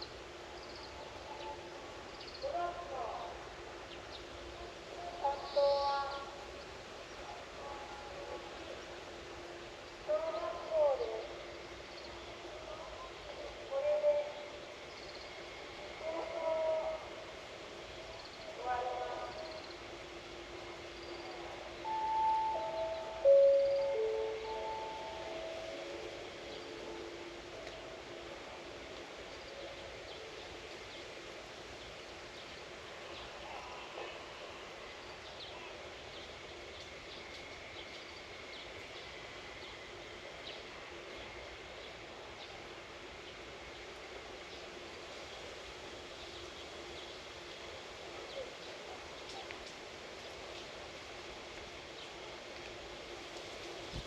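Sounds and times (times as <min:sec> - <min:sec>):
faint steady hiss: 0:00.0 - 0:54.0.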